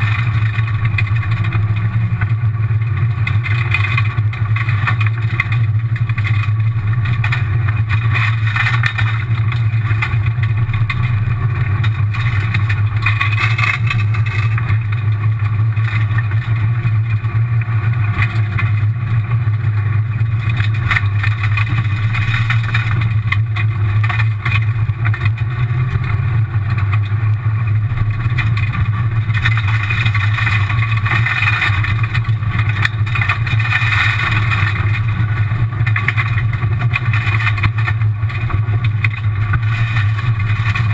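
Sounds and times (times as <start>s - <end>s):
car engine drone: 0.0s - 40.9s
gravel and tyre noise: 0.0s - 40.9s.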